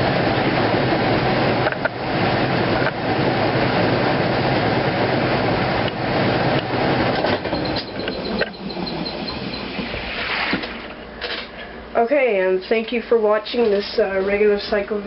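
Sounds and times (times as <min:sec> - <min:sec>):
washing machine rushing rumble: 0:00.0 - 0:15.0.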